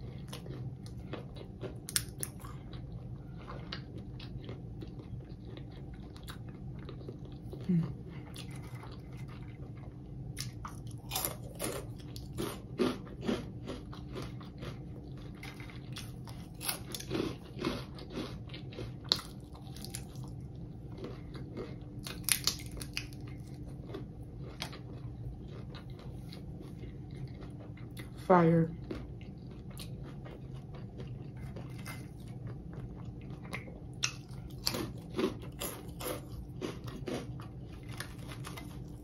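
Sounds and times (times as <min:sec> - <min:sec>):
crunching and chewing food: 0:00.0 - 0:39.0.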